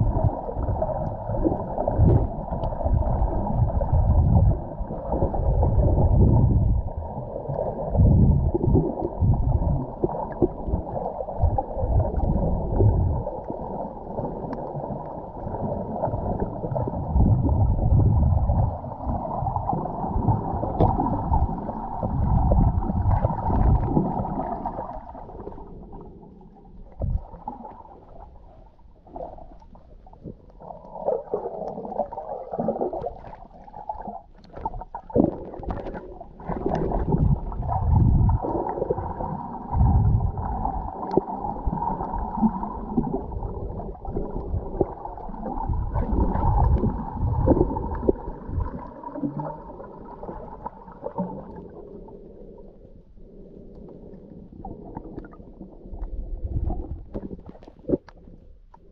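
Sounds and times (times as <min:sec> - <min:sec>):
muffled underwater gurgling: 0:00.0 - 0:58.9.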